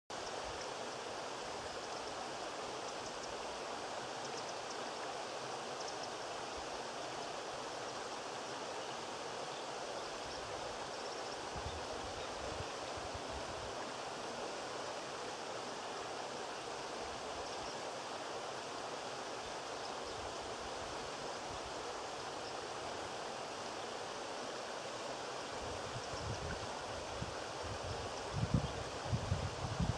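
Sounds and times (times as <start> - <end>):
stream rushing over stones: 0.1 - 29.9.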